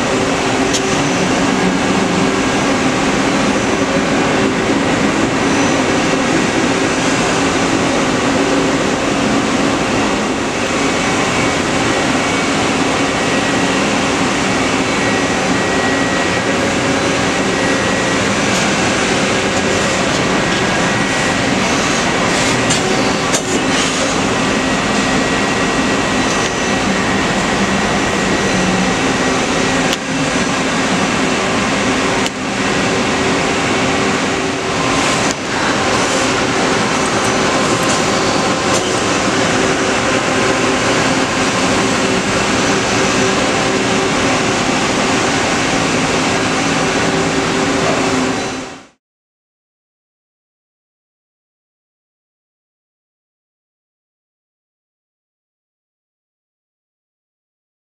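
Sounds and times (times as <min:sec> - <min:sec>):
lathe machine hum: 0:00.0 - 0:49.0.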